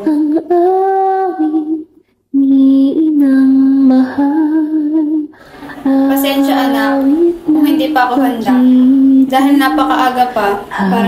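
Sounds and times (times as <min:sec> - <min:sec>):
woman singing a lullaby: 0:00.0 - 0:09.9.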